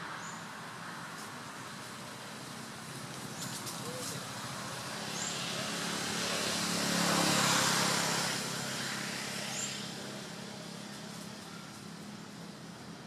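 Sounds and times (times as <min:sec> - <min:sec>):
motor vehicle passing: 0:01.5 - 0:12.8.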